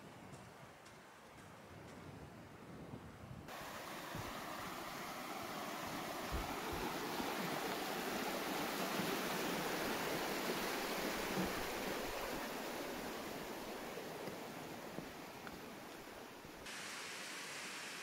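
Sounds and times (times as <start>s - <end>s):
river rapids rushing: 3.5s - 18.0s.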